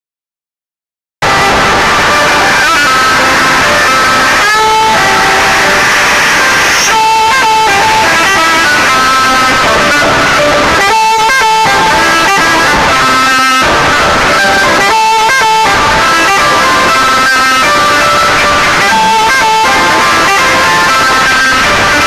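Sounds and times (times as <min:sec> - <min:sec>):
background music with held notes: 0:01.2 - 0:22.0.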